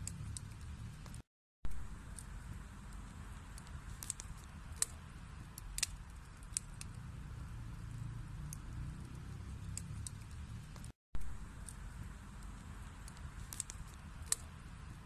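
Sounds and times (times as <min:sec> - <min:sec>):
burning wood crackling and popping: 0:00.0 - 0:15.0
fire flames rumbling: 0:00.0 - 0:15.0.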